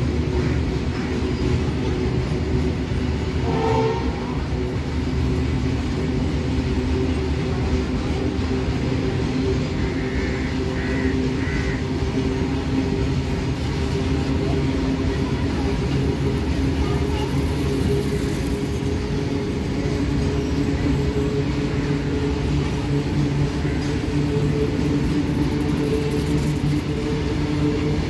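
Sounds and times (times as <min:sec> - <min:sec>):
steady droning tones: 0:00.0 - 0:28.0
train wheels rumbling on rails: 0:00.0 - 0:28.0.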